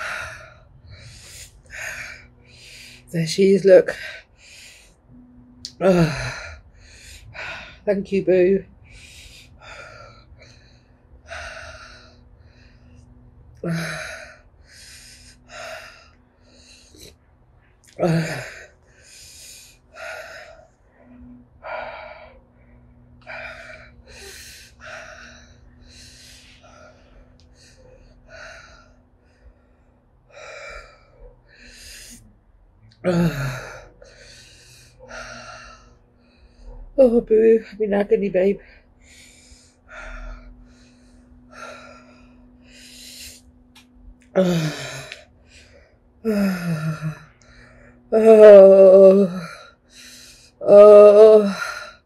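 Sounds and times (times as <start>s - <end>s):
woman breathing hard: 0.0s - 3.1s, 3.9s - 7.9s, 8.7s - 32.3s, 33.0s - 37.0s, 38.6s - 48.1s.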